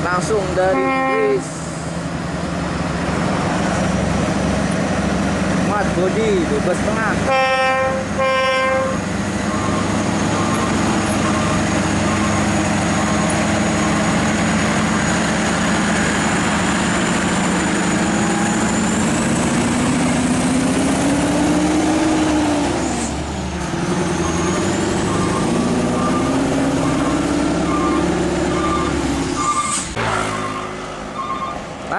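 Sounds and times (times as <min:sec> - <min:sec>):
diesel truck engine under load: 0:00.0 - 0:07.2, 0:09.0 - 0:31.9.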